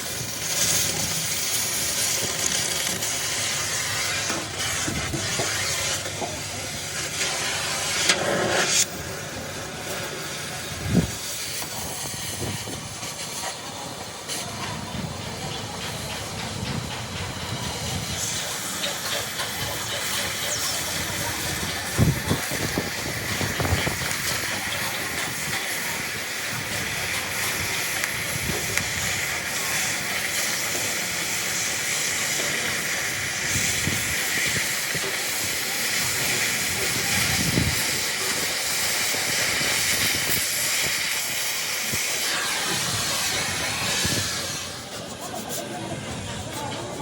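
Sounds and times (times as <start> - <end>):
welding arc hissing: 0.0 - 47.0.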